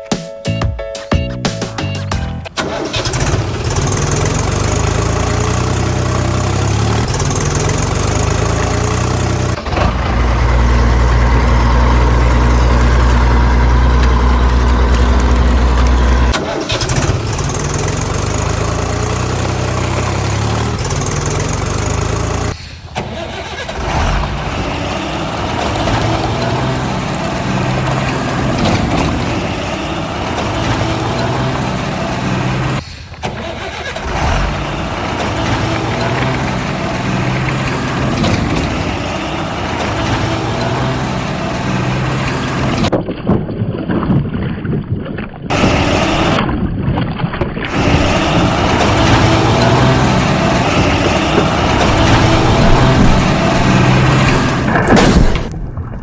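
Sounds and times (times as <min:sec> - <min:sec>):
vehicle engine humming: 0:01.3 - 0:42.9, 0:45.5 - 0:46.4, 0:47.7 - 0:55.6.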